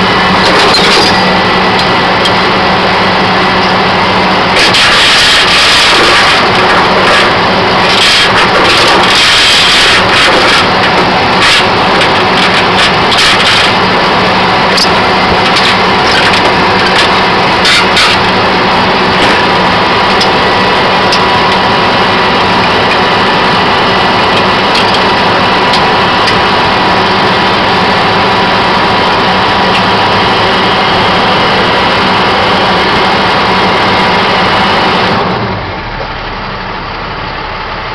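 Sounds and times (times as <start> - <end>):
steady whine: 0.0 - 37.9
tow truck diesel engine running: 0.0 - 37.9.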